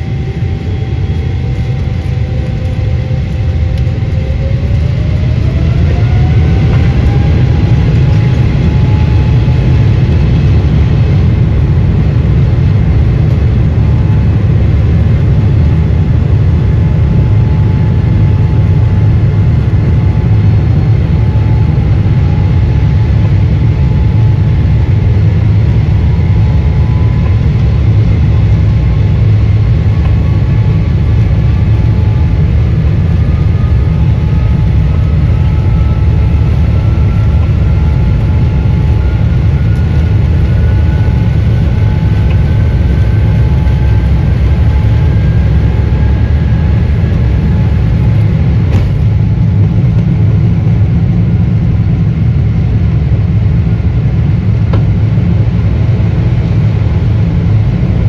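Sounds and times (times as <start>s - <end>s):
jet engine whine: 0.0s - 58.0s
jet engines and wheels rumbling: 0.0s - 58.0s.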